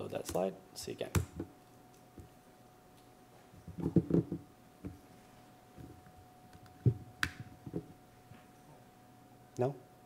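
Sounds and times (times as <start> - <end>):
faint steady electrical tone: 0.0 - 10.0.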